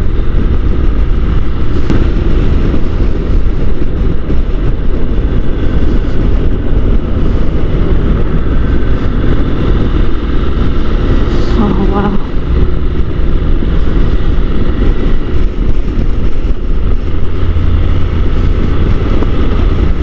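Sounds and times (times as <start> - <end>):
motorcycle engine rumble: 0.0 - 20.0
wind rushing on microphone: 0.0 - 20.0.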